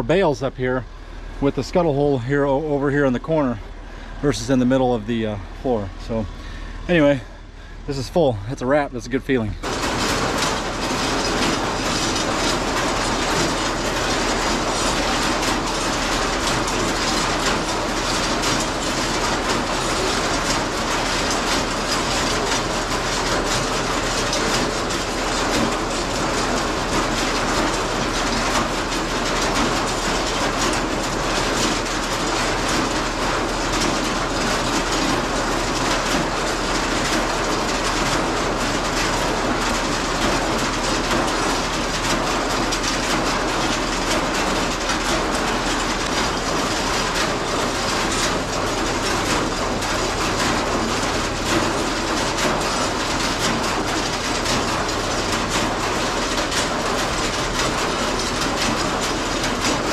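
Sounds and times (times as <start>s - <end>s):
chain conveyor clattering: 9.5s - 59.9s.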